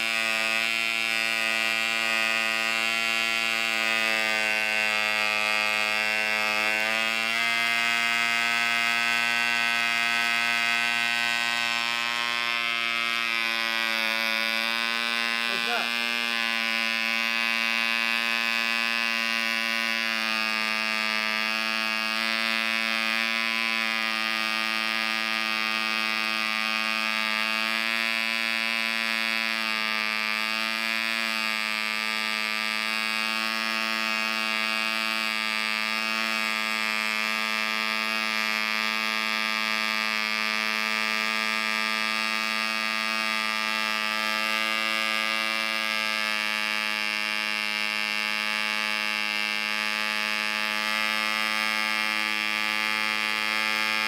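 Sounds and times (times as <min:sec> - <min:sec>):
model engine buzzing: 0:00.0 - 0:54.0.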